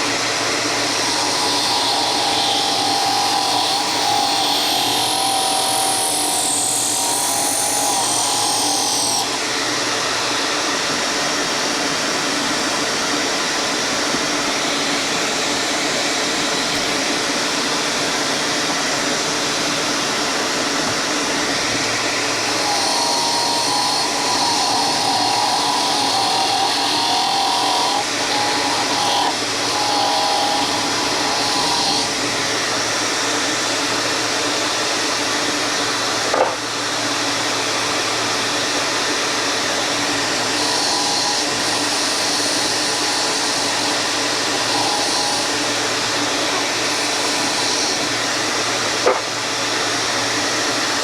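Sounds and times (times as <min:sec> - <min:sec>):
power tool whirring: 0:00.0 - 0:51.0.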